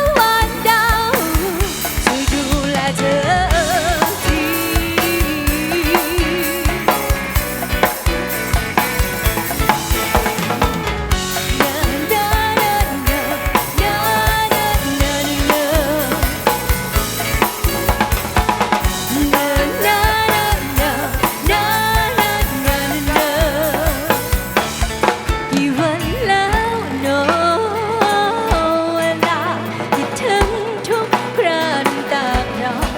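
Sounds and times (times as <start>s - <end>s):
bass line: 0.0s - 30.8s
drum kit beat: 0.0s - 32.9s.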